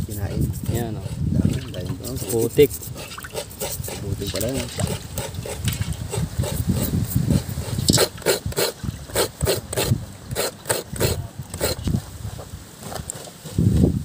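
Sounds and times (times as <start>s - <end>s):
rhythmic hand strokes: 0.0s - 11.9s.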